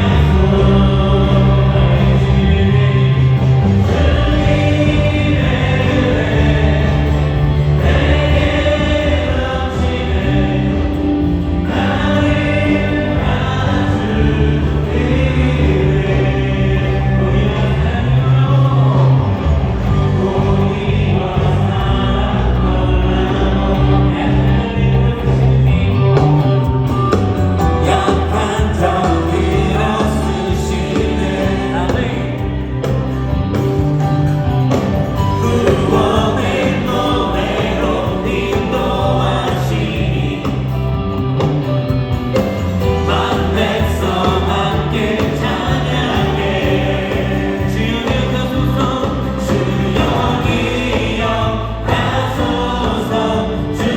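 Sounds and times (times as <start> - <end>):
group of singers: 0.0 - 53.9
worship band playing: 0.0 - 53.9.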